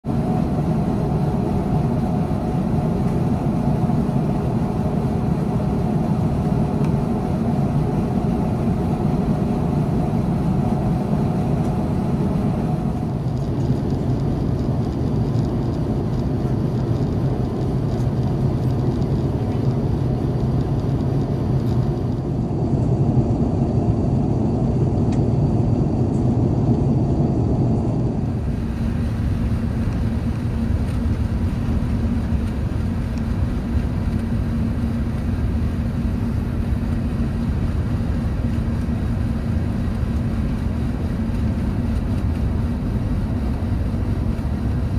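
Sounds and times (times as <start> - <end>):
jet engine drone: 0.0 - 44.9.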